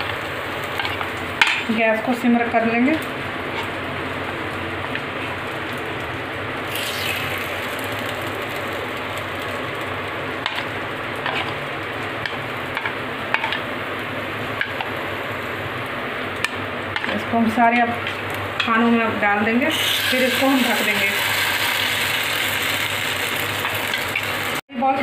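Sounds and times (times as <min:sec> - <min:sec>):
batter sizzling in a pan: 0:00.0 - 0:24.6.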